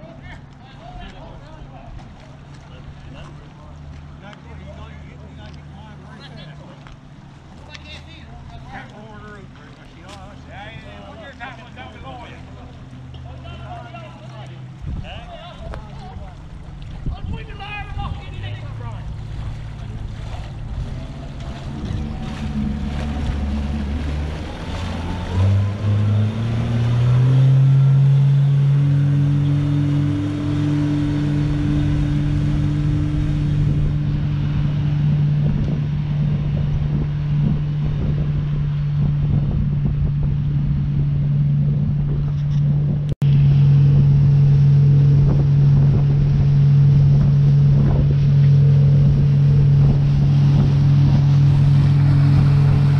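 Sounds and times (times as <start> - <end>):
boat engine throttling up: 0.0 - 52.9
water rushing along hull: 0.0 - 52.9.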